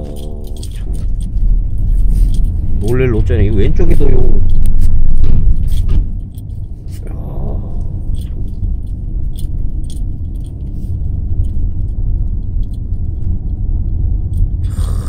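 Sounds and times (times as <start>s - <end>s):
light rattling clicks: 0.0s - 14.6s
road and engine rumble: 0.0s - 15.0s.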